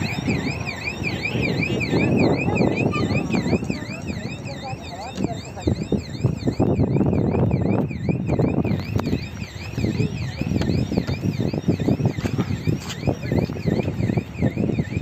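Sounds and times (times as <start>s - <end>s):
electronic warbling alarm: 0.0s - 15.0s.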